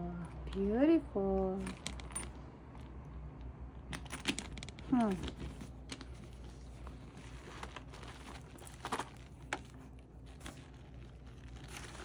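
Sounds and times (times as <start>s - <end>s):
handbag clicks and rustles: 0.4s - 2.9s, 3.9s - 12.0s.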